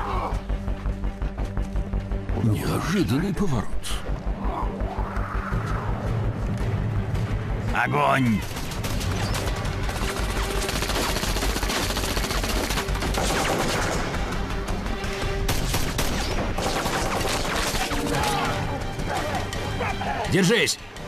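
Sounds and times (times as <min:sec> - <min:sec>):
film score music: 0:00.0 - 0:21.0.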